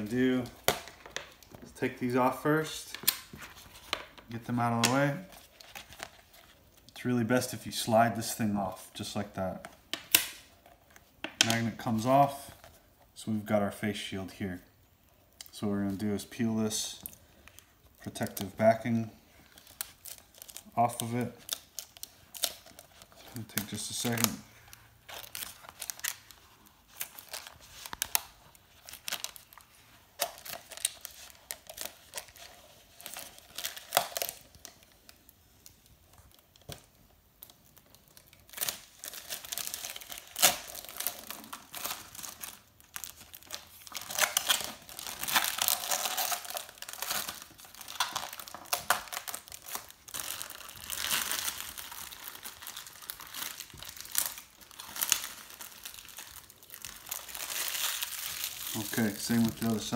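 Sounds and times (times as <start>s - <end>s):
plastic film crinkling: 0.0s - 7.6s, 14.5s - 59.9s.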